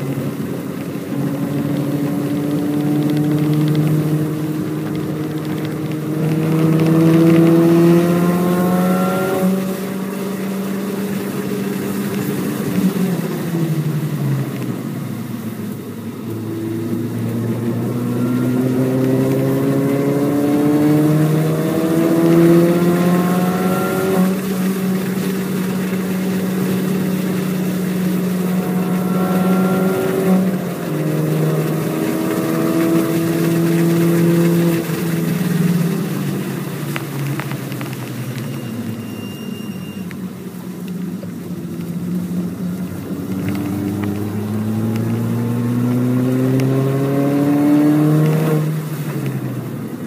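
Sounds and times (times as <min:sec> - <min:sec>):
supercharged car engine revving: 0:00.0 - 0:39.9, 0:41.1 - 0:50.0.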